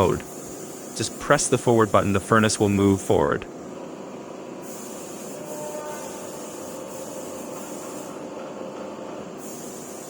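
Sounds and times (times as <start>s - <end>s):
machinery noise with faint whine: 0.0s - 10.0s.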